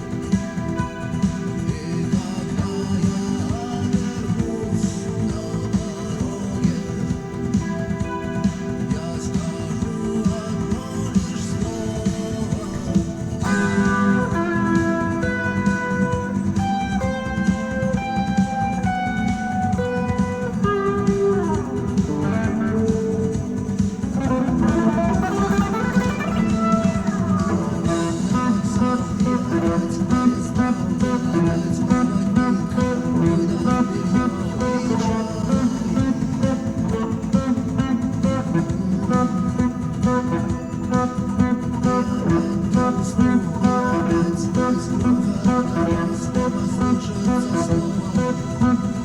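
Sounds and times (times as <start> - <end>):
backing drums and bass: 0.0 - 49.0
lead guitar melody: 0.0 - 49.0.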